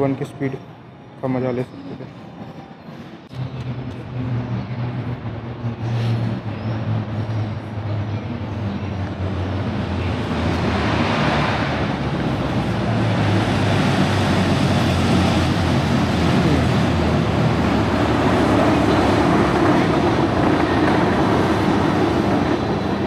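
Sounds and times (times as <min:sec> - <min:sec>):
train pulling into station: 0:00.0 - 0:23.0.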